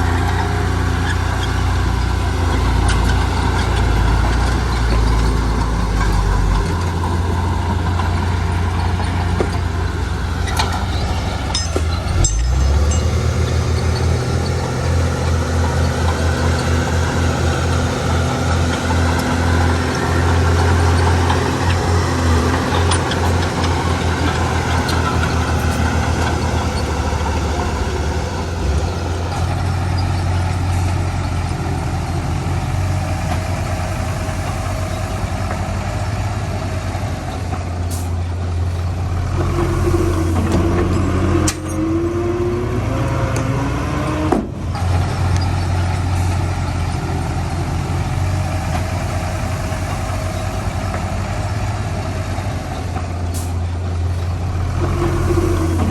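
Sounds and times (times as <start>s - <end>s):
diesel machinery engine drone: 0.0s - 55.9s.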